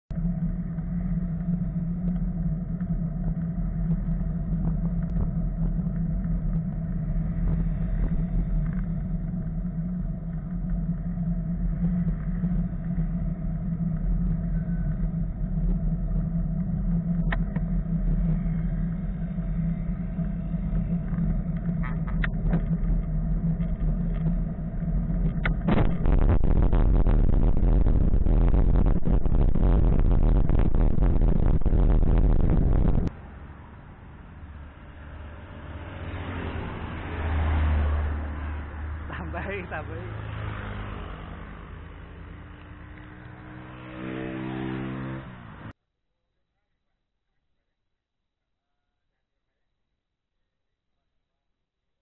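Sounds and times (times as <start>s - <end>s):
cars passing on busy road: 0.2s - 45.8s.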